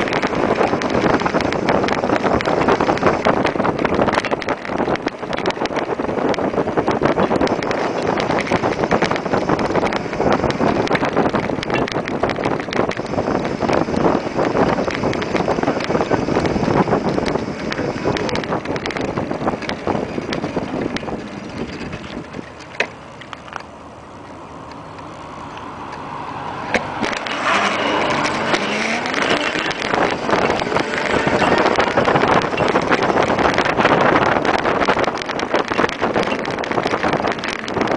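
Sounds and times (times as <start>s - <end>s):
road noise: 0.0s - 37.9s
small vehicle motor: 0.0s - 37.9s.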